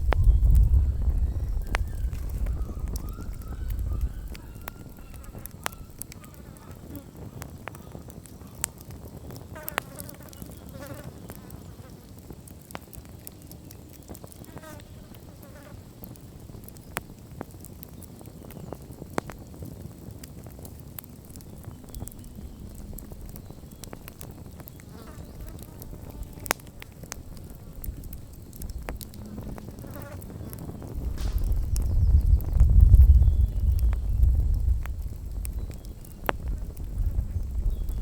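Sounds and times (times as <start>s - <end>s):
campfire crackling and popping: 0.0s - 38.0s
low rumble of flames: 0.0s - 38.0s.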